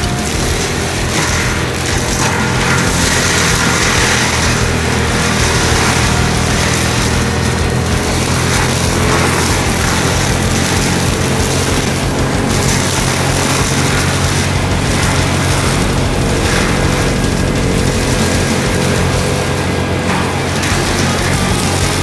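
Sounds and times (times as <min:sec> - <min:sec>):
diesel engine at high revs: 0:00.0 - 0:22.0
mulcher shredding brush: 0:00.0 - 0:22.0.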